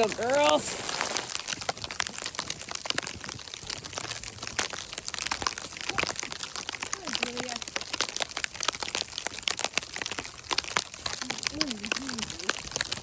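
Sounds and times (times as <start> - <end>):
crunching and crackling: 0.0 - 13.0.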